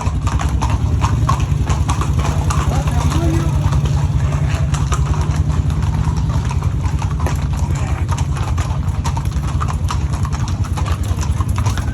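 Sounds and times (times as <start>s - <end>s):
horse hooves clip-clopping: 0.0s - 11.9s.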